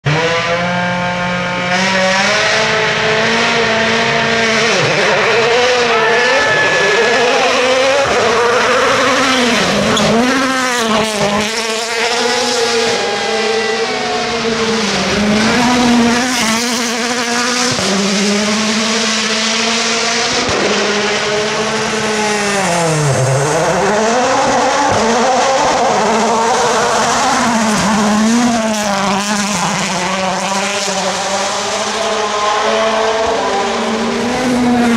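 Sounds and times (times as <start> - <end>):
rally car engine at full throttle: 0.0 - 34.9.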